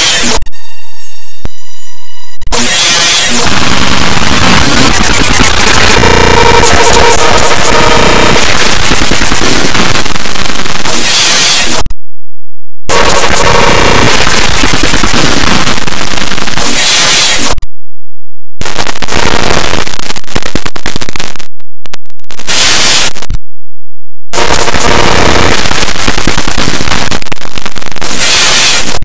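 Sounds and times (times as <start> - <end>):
distorted crackling cartoon soundtrack: 0.0 - 11.9, 12.9 - 17.6, 18.6 - 23.4, 24.3 - 29.0.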